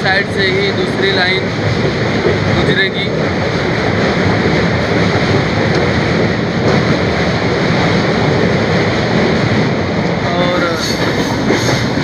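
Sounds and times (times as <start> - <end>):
train rushing rumble: 0.0 - 12.0.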